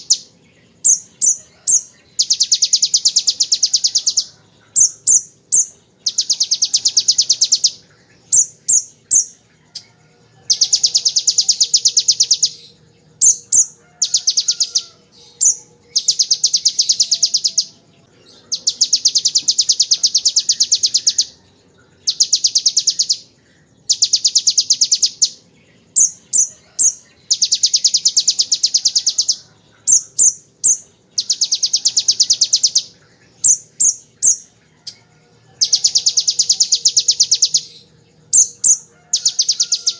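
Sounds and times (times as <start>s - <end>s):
sunbird trilling: 0.0s - 39.9s.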